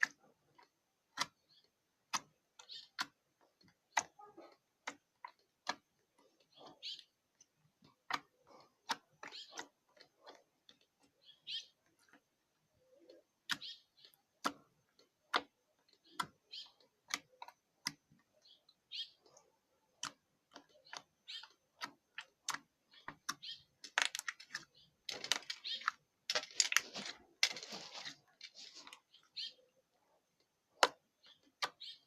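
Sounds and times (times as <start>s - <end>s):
slime squishing: 0.0s - 32.0s.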